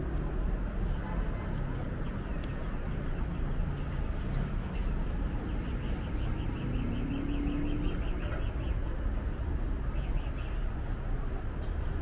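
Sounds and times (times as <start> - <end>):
city traffic noise: 0.0 - 12.0.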